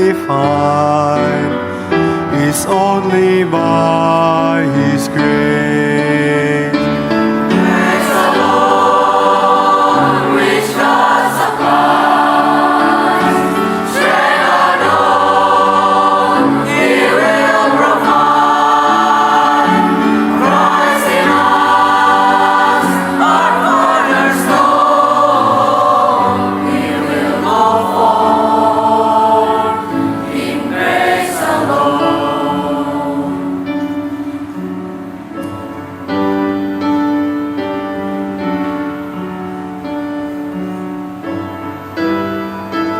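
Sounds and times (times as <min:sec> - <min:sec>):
choir singing in harmony: 0:00.0 - 0:36.8.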